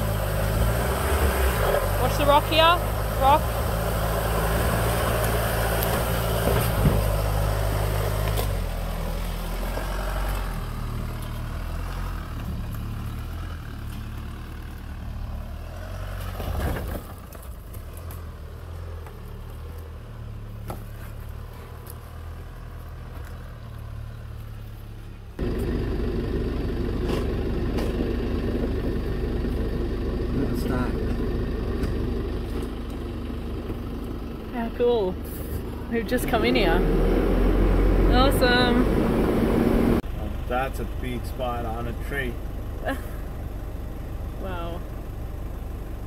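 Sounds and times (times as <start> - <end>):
vehicle engine at low speed: 0.0 - 46.0.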